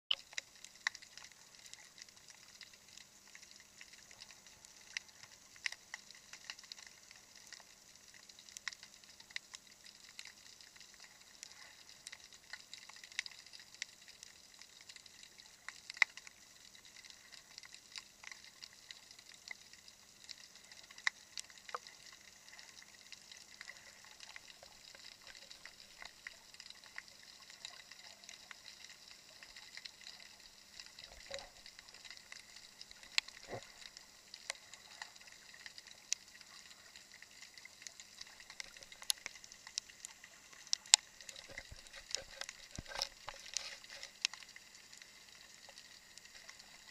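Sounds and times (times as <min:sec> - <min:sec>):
soft underwater hiss: 0:00.1 - 0:46.9.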